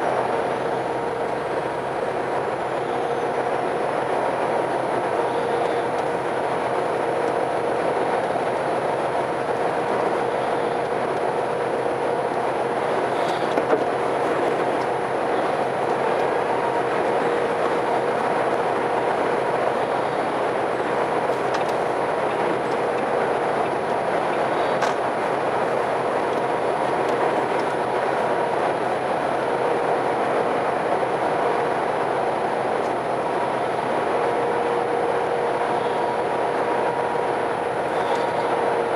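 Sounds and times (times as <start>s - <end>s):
moving vehicle hum: 0.0s - 38.9s.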